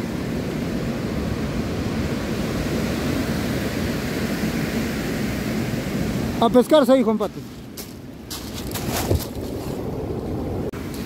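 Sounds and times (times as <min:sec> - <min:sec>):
surf washing over pebble beach: 0:00.1 - 0:11.0.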